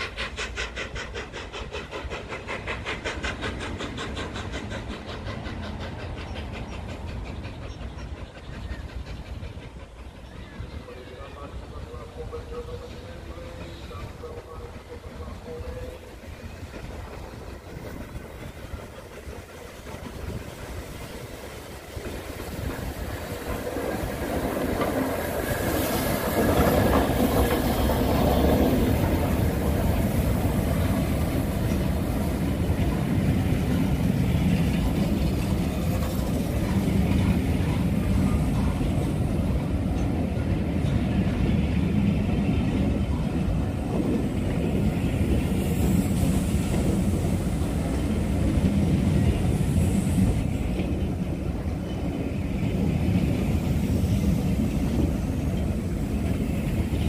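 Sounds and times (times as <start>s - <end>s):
steam locomotive passing: 0.0s - 57.0s
train wheels rumbling on rails: 0.0s - 57.0s.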